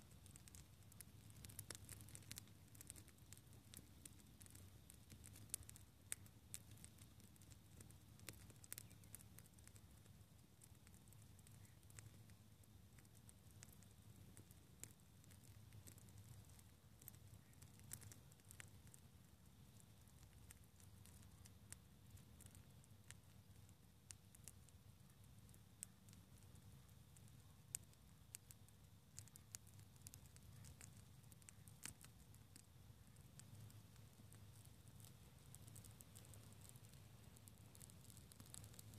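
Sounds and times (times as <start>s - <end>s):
faint low hum: 0.0s - 38.9s
low steady rumble: 0.0s - 38.9s
small clicks and ticks: 0.0s - 38.9s.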